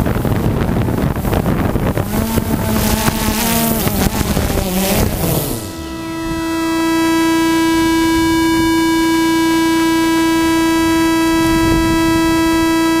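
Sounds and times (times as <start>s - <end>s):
loud steady high whine: 0.0s - 13.0s.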